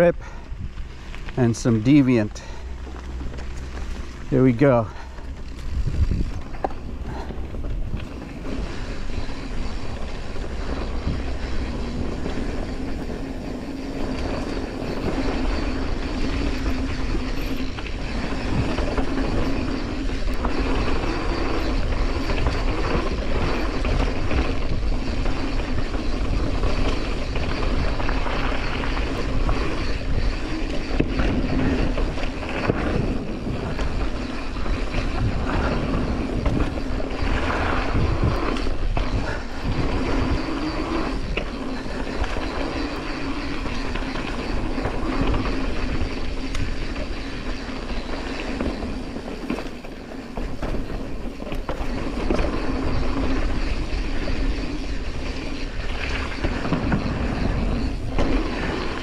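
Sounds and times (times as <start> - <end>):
bike rattling over bumps: 0.0 - 59.0
wind and rolling tyres: 0.0 - 59.0.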